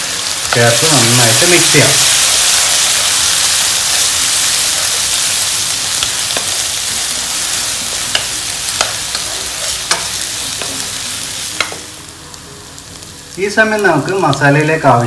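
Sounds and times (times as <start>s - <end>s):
paste sizzling in hot oil: 0.0s - 12.2s.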